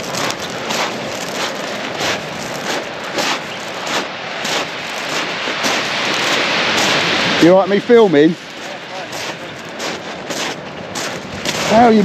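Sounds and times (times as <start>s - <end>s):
footsteps crunching on shingle: 0.0s - 7.5s, 8.4s - 12.0s
steady rushing noise: 0.0s - 12.0s.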